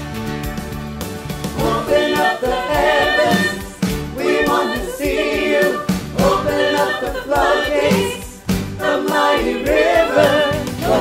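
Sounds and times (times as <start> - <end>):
mixed choir singing: 1.5 - 11.0.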